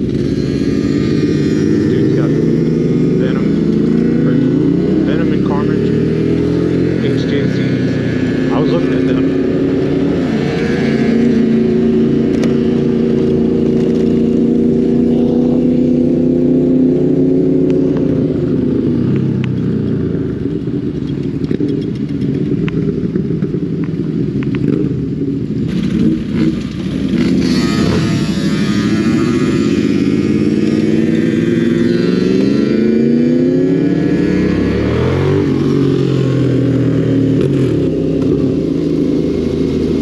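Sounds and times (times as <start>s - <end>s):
motorcycle engines running: 0.0s - 40.0s.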